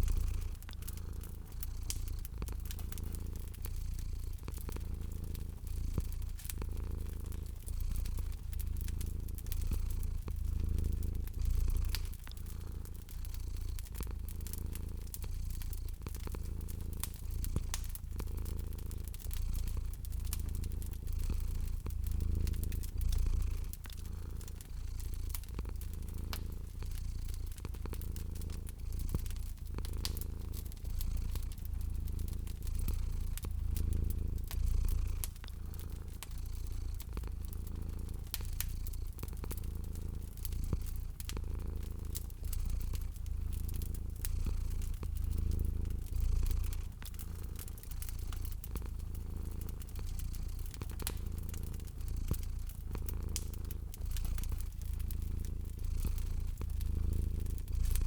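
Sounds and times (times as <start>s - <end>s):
cat purring: 0.0s - 58.0s
wood fire crackling: 0.0s - 58.0s.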